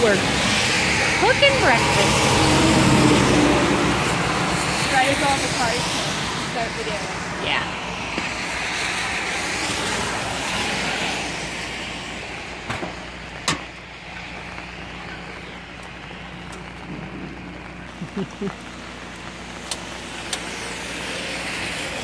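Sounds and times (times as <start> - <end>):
car tyres hissing on wet road: 0.0 - 22.0.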